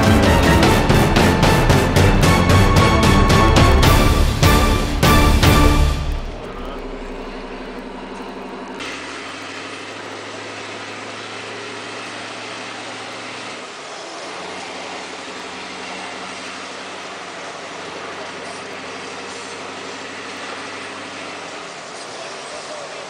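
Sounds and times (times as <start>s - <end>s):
diesel truck engine running: 0.0s - 23.0s
road noise: 0.0s - 23.0s.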